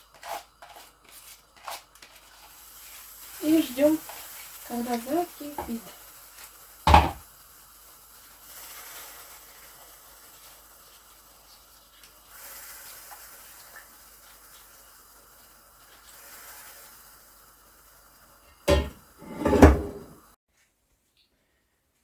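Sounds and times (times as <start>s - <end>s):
pot of water hissing on stove: 0.0s - 20.4s.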